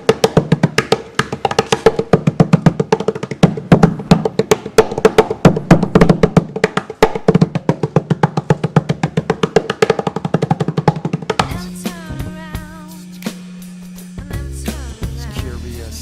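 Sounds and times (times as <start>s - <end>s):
fast percussion beat: 0.0s - 16.0s.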